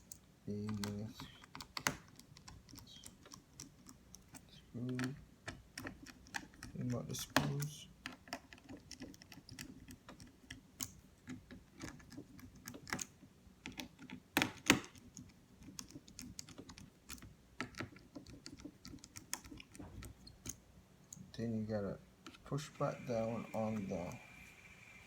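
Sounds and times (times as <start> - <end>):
screwdriver clicking on plastic parts: 0.1 - 21.2.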